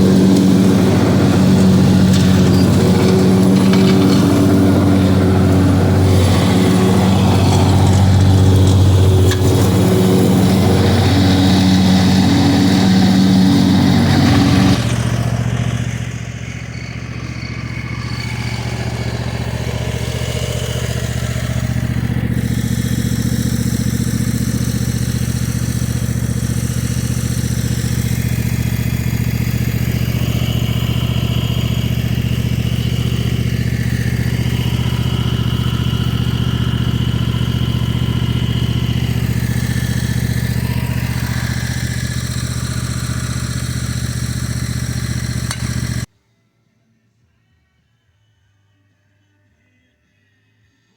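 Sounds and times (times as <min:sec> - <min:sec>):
motor running: 0:00.0 - 0:46.1.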